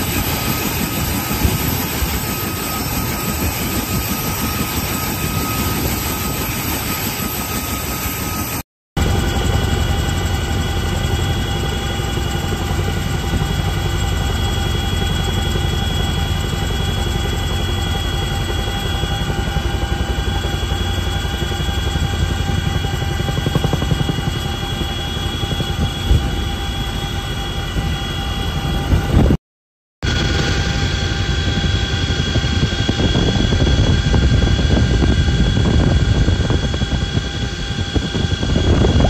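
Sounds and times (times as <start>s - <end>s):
helicopter rotors and turbines: 0.0s - 29.4s, 30.0s - 39.0s
turbine engine whine: 0.0s - 29.4s, 30.0s - 39.0s.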